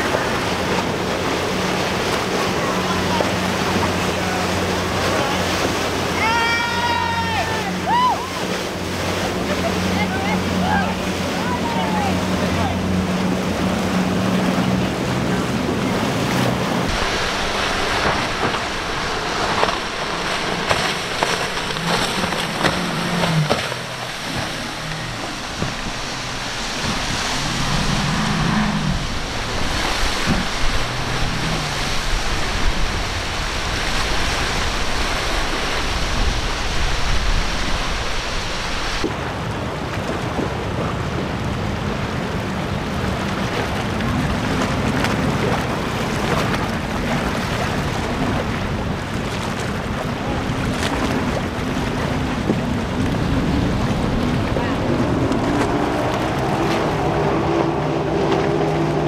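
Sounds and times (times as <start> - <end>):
outboard engine drone: 0.0 - 59.0
wake spray and waves rushing: 0.0 - 59.0
wind buffeting microphone: 7.2 - 59.0.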